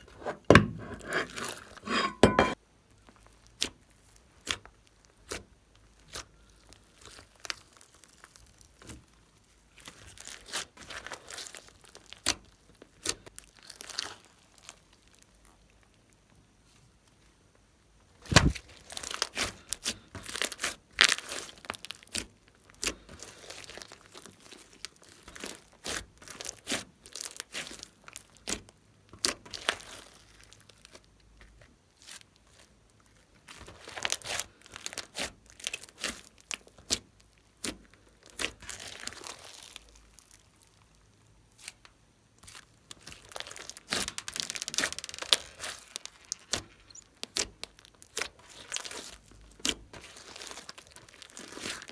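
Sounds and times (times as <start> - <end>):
slime sticky clicks and crackles: 3.1 - 9.2, 9.8 - 16.0, 18.6 - 51.9.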